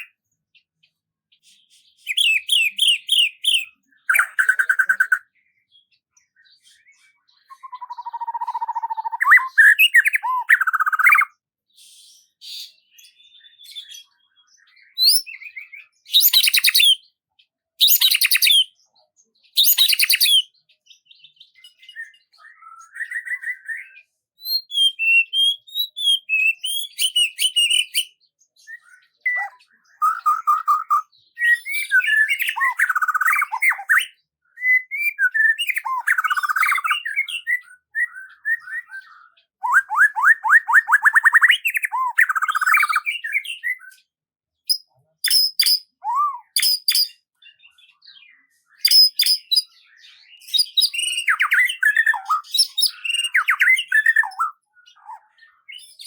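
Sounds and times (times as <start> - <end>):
songbird singing: 0.0 - 11.5, 12.2 - 56.0.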